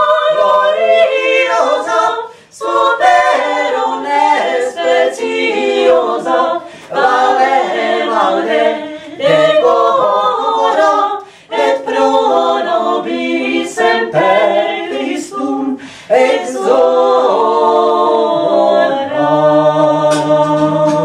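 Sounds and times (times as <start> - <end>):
a cappella choir singing: 0.0 - 21.0.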